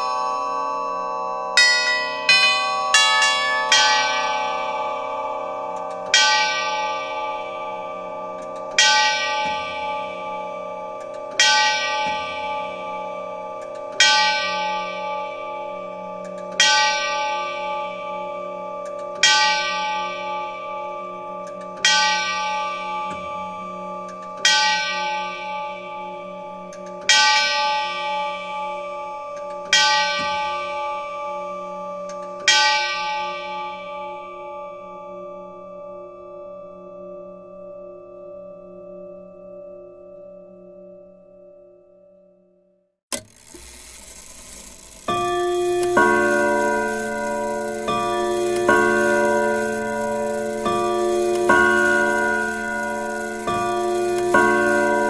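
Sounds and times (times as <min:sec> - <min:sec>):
clock bell striking: 0:00.0 - 0:39.2, 0:43.1 - 0:55.0.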